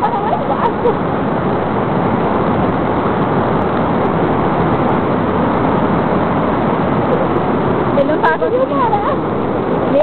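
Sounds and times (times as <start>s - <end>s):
river rapids rushing: 0.0s - 10.0s.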